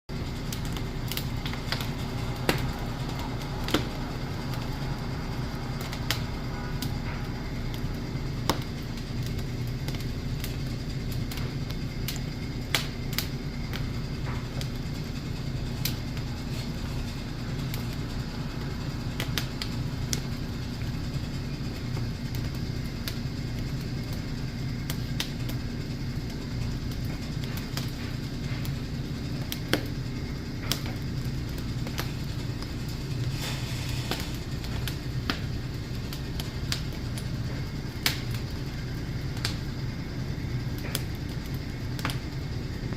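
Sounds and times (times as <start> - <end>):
wood fire crackling and popping: 0.1 - 42.9.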